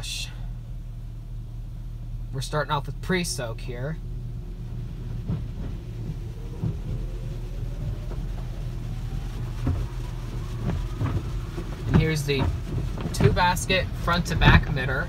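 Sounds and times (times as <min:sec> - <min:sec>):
car wash machinery rumble: 0:00.0 - 0:15.0
faint rising whine: 0:00.0 - 0:15.0.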